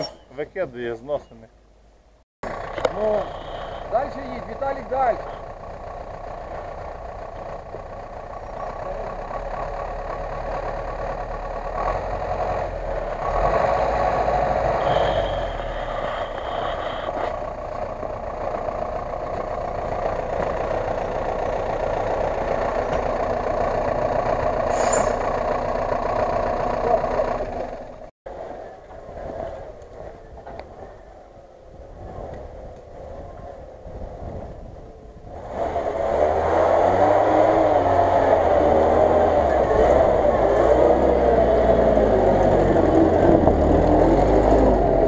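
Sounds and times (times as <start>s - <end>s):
quieter engine: 0.0s - 45.0s
truck engine running under load: 2.4s - 45.0s.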